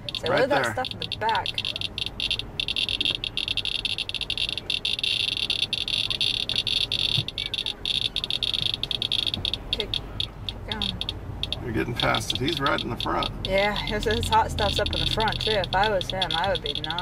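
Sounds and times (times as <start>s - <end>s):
geiger counter chirping: 0.0s - 17.0s
low road rumble: 0.0s - 17.0s.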